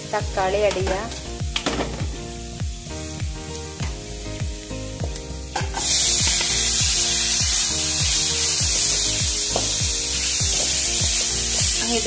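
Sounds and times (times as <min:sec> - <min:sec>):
background music with a beat: 0:00.0 - 0:12.0
food sizzling in hot oil: 0:00.0 - 0:12.0.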